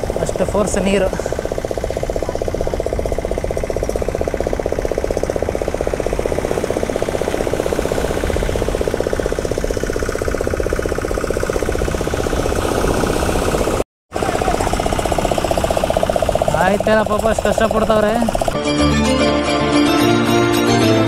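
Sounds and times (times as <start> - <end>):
outboard motor idling: 0.0 - 18.6.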